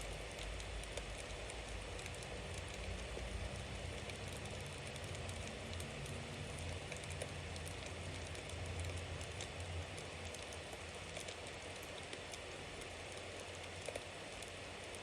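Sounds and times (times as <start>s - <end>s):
bonfire crackling and popping: 0.1s - 15.0s.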